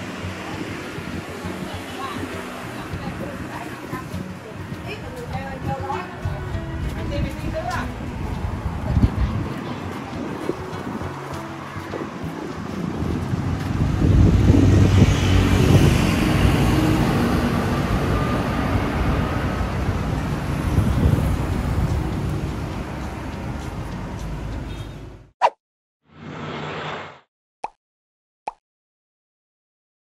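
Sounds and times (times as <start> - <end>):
vehicles passing on busy road: 0.0 - 25.3.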